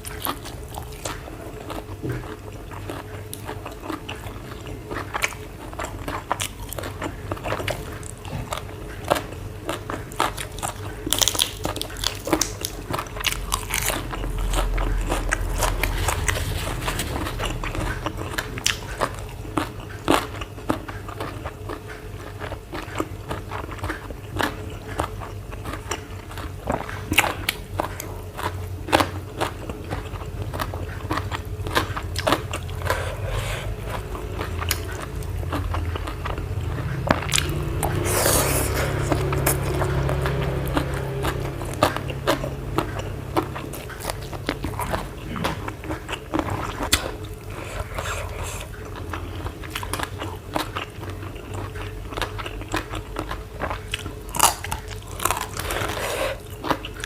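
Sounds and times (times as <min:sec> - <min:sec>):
crunching and chewing crisp food: 0:00.0 - 0:57.0
faint steady hum: 0:00.0 - 0:57.0.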